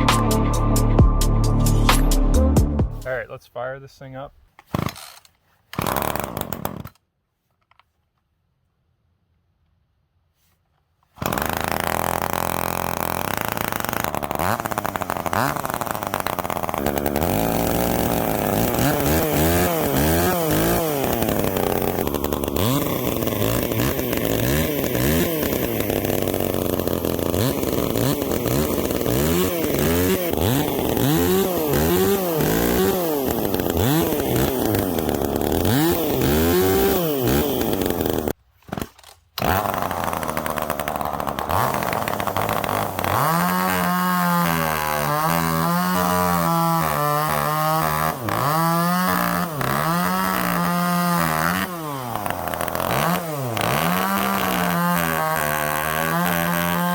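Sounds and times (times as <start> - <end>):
chainsaw revving: 4.7 - 7.0, 11.2 - 56.9.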